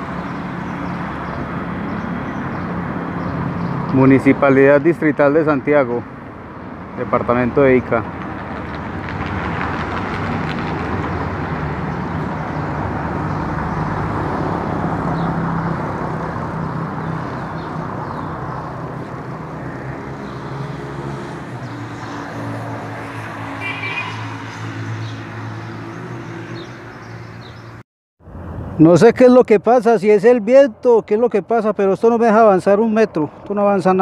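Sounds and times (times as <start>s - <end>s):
street noise: 0.0s - 34.0s.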